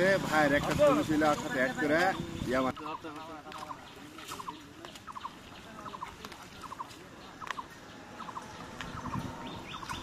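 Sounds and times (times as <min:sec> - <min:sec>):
bird calling: 0:00.8 - 0:10.0.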